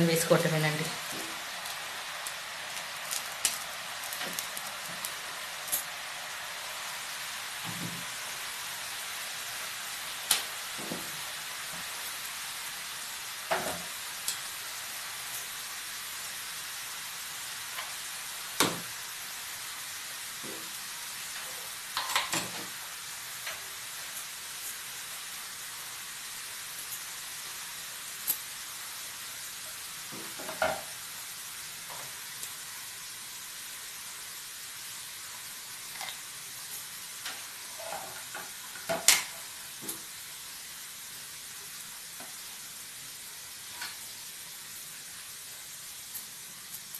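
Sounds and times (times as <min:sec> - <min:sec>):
food sizzling in hot oil: 0:00.0 - 0:46.9
sharp clicks of frying: 0:00.0 - 0:46.9.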